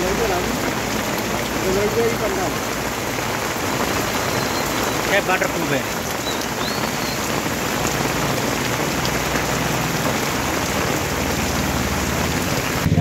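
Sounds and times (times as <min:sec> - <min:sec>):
heavy rain on a road: 0:00.0 - 0:13.0.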